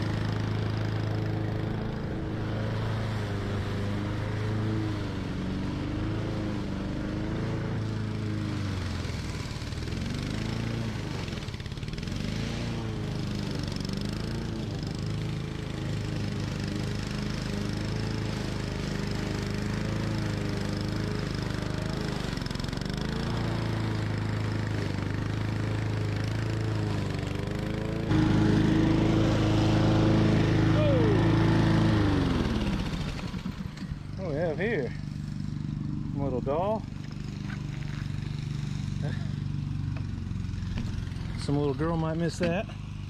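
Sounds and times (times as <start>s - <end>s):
lawn mower engine running: 0.0s - 43.0s.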